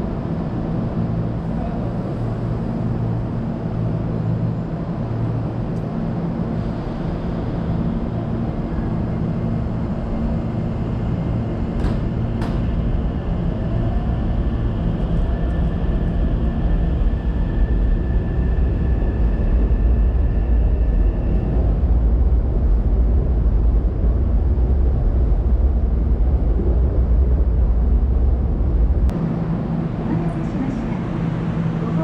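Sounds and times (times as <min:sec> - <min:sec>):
electric train rumble: 0:00.0 - 0:32.0.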